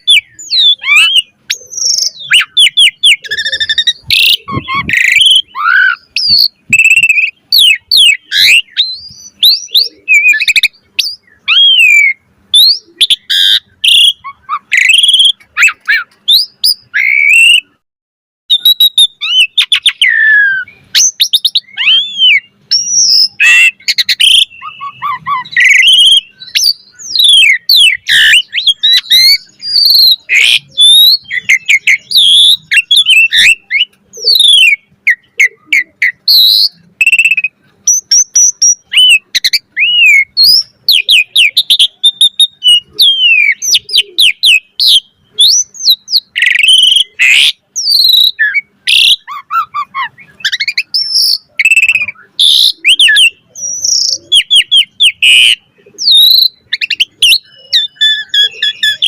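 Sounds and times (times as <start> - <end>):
starling whistling song: 0.0 - 17.8, 18.5 - 59.0.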